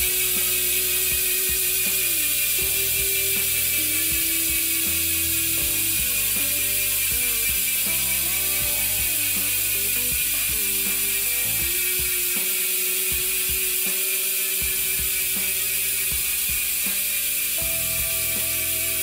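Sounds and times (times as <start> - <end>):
bicycle hub ratcheting buzz: 0.0 - 19.0.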